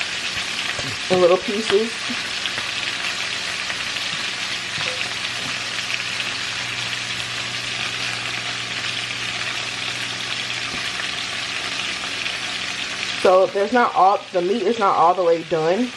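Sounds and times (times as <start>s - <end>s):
chicken sizzling in oil: 0.0s - 15.9s.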